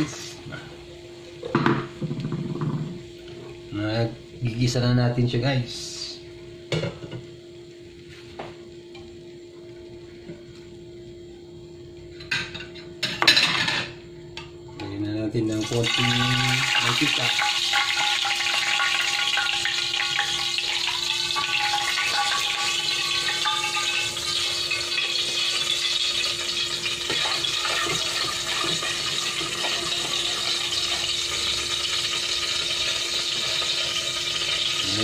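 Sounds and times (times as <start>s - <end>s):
oil sizzling in a pot: 0.0s - 13.8s, 15.3s - 35.0s
steady hum: 0.0s - 35.0s.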